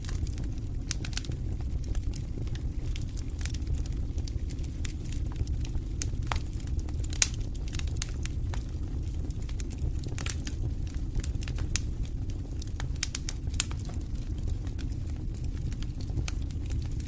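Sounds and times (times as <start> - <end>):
campfire flames rumbling: 0.0 - 17.0
fire popping and crackling: 0.0 - 17.0.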